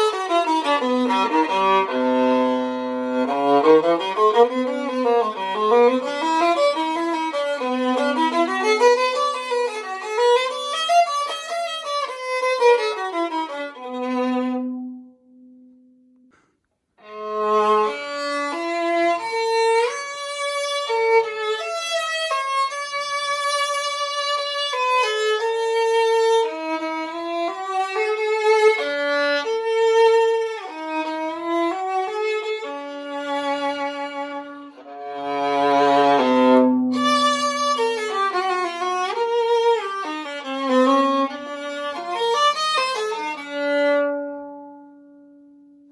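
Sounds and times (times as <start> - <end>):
viola played with a bow: 0.0 - 15.9, 17.0 - 45.9.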